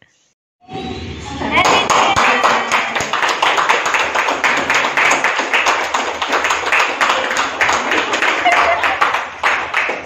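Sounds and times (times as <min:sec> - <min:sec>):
people clapping: 0:01.5 - 0:10.0.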